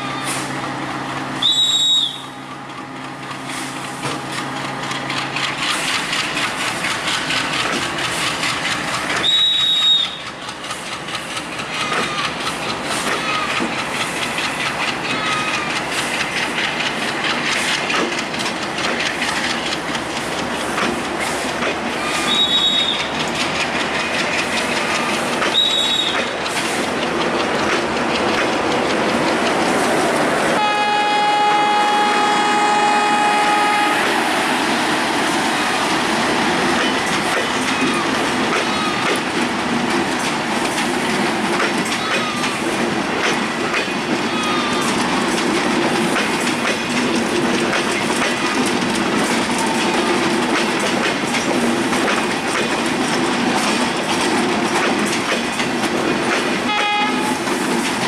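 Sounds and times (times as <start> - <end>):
train wheels clacking on rails: 0.0 - 58.0.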